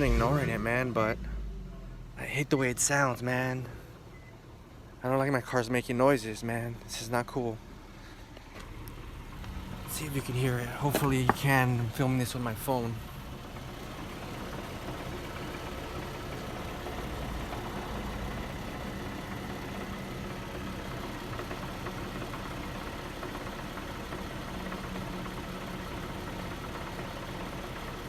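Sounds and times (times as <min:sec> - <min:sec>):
car engine idling with rattle: 0:00.0 - 0:28.0.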